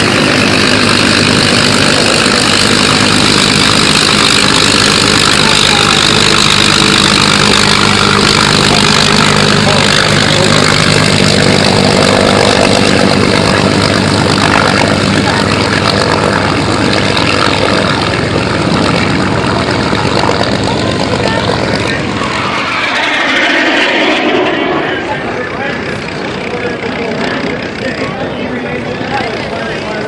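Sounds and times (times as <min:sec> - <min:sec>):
aircraft engine running: 0:00.0 - 0:30.0.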